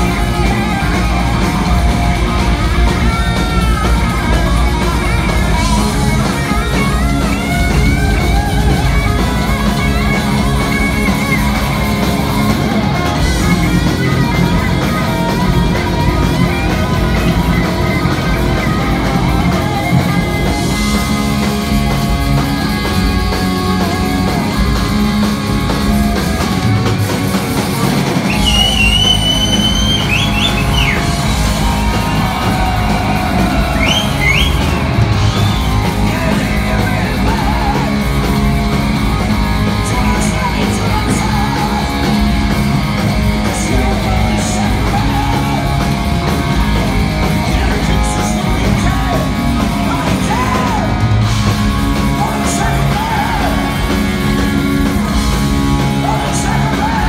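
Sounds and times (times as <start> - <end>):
distorted electric guitars: 0.0 - 57.0
lead guitar lines bending: 0.0 - 57.0
pounding drum kit: 0.0 - 57.0.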